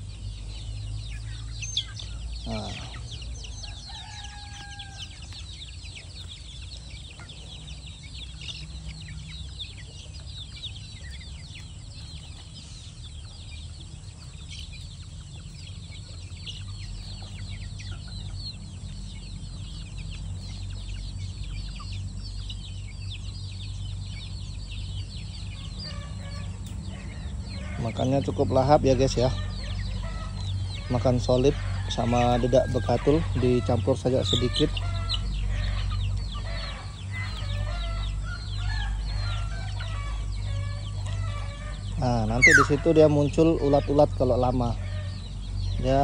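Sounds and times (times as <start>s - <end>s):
chickens peeping and clucking: 0.0s - 46.0s
low steady rumble: 0.0s - 46.0s.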